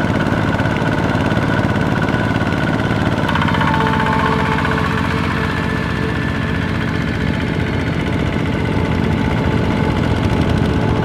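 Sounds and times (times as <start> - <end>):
diesel tractor engine chugging: 0.0 - 11.0.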